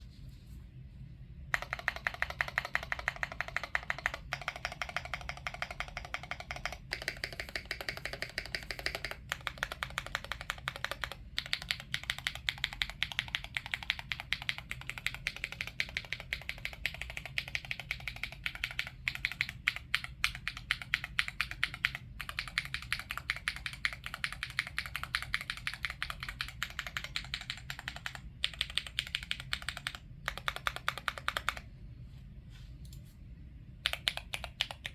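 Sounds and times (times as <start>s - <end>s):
mechanical keyboard typing: 1.5s - 31.7s, 33.8s - 34.9s.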